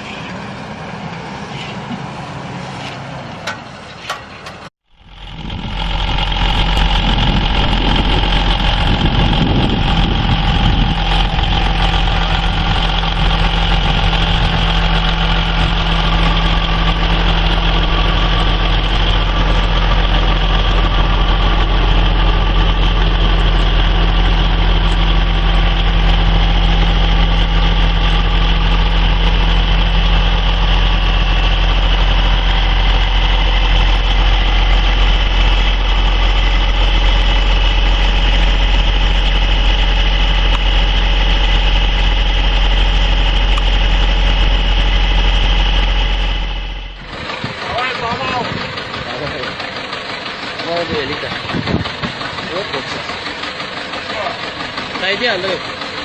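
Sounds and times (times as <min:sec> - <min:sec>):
engine droning steadily: 0:00.0 - 0:56.0
vehicle noise: 0:00.0 - 0:56.0.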